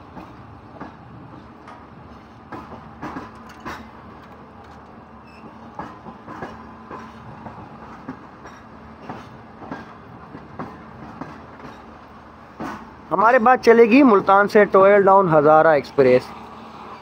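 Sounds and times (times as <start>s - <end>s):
train wheels clacking over rail joints: 0.0s - 14.5s
train rumble: 0.0s - 17.0s.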